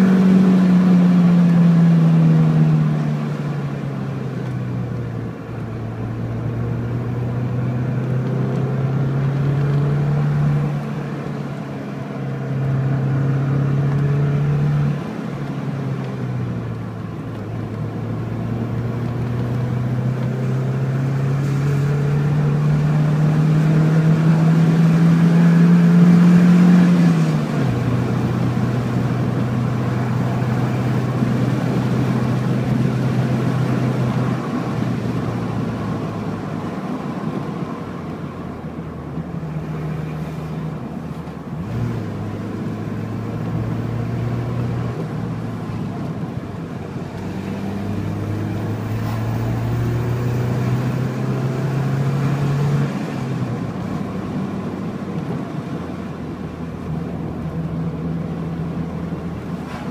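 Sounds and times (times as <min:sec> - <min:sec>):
car engine revving under load: 0:00.0 - 0:59.9.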